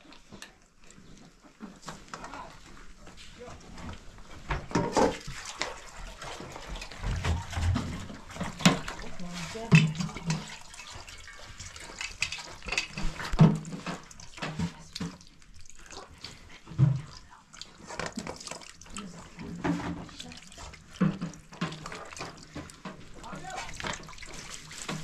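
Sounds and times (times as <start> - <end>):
bumps and splashes: 0.0 - 25.0
hands rubbing and rinsing chicken: 0.0 - 25.0
water poured from a jug: 0.0 - 25.0.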